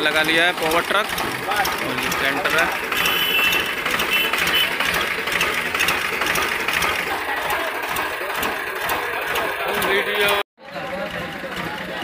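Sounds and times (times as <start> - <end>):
tractor diesel engine clattering: 0.0 - 12.0.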